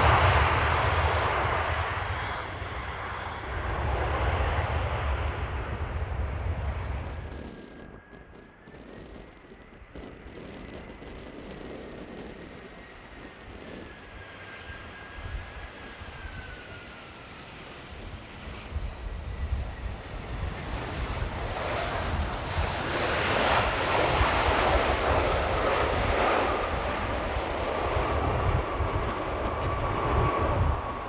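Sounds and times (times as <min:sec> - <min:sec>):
jet airliner roar: 0:00.0 - 0:31.0
wind rumble on microphone: 0:00.0 - 0:31.0.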